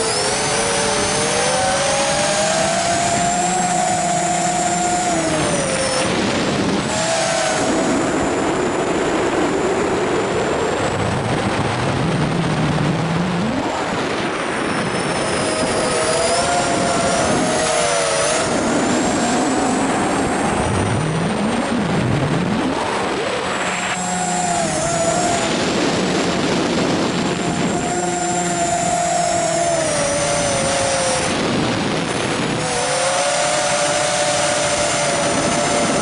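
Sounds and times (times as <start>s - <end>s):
rush of propeller air: 0.0s - 36.0s
whining drone motors: 0.0s - 36.0s.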